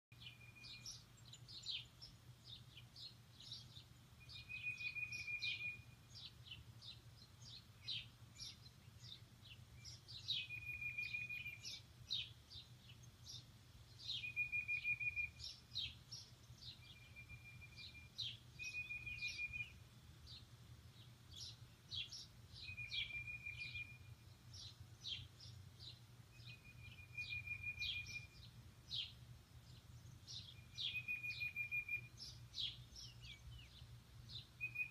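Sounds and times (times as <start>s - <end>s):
birds chirping: 0.1s - 34.9s
faint low hum: 0.1s - 34.9s
bird trill: 0.2s - 1.9s, 3.4s - 13.4s, 14.0s - 20.4s, 21.3s - 29.2s, 30.2s - 34.9s.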